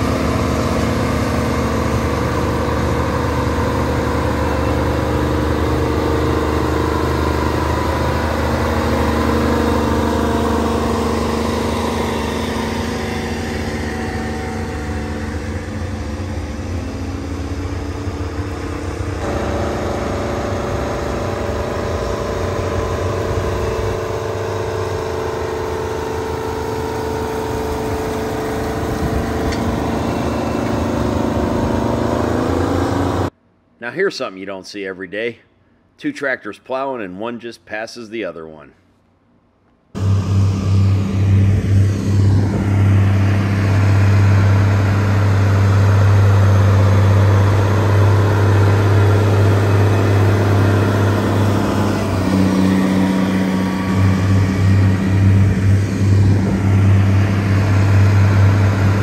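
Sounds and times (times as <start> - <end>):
tractor engine running: 0.0 - 33.4, 39.9 - 59.0.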